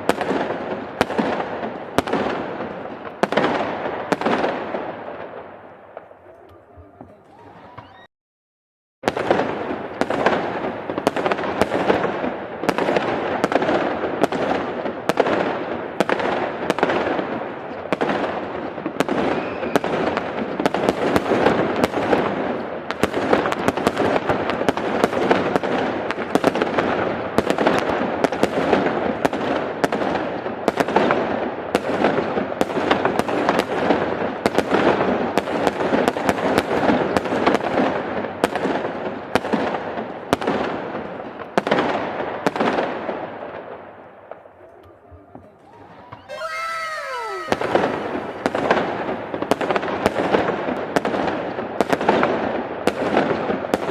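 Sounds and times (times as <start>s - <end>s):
fireworks bangs and crackles: 0.0s - 8.0s, 9.0s - 53.9s.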